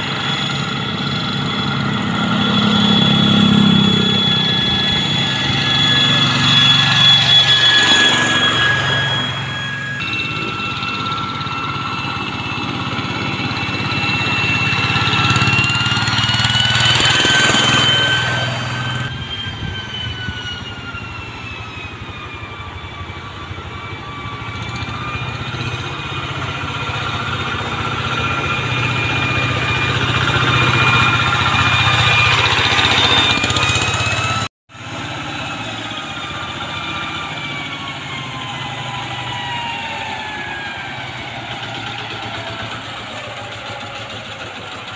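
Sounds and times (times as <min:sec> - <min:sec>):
high whine: 0:00.0 - 0:44.9
tractor engine running: 0:00.0 - 0:44.9.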